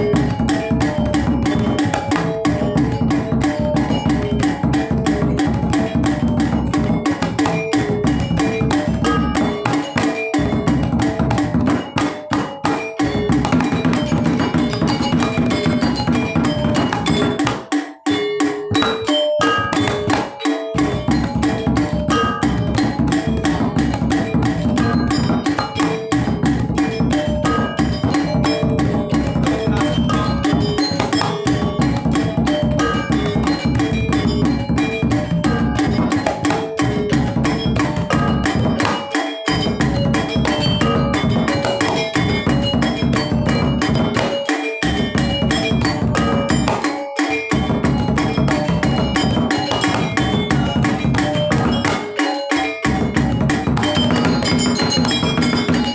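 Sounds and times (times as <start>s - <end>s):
gamelan percussion ensemble: 0.0s - 55.9s.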